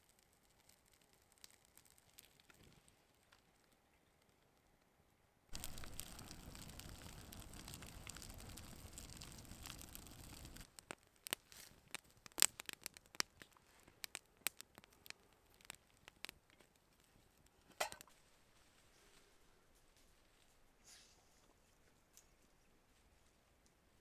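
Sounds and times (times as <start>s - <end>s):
campfire crackling and hissing: 0.0s - 4.7s, 5.5s - 21.4s.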